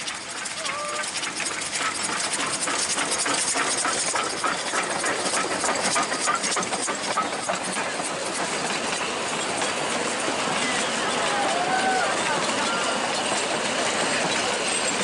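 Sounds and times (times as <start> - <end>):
carriages rumbling past: 0.0 - 15.0
hiss of steam: 0.0 - 15.0
steam locomotive chuffing: 0.0 - 15.0.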